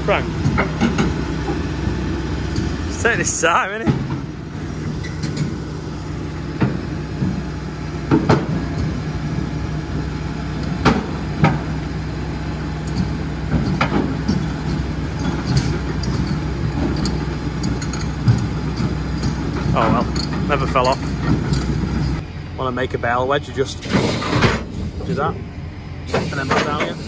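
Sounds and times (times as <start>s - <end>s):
diesel engine hum: 0.0s - 27.0s
steel tracks clanking: 0.0s - 27.0s.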